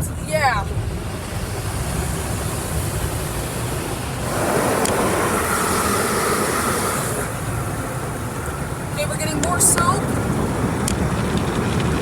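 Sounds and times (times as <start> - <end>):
low cabin rumble: 0.0 - 12.0
water spray and machinery: 0.8 - 12.0.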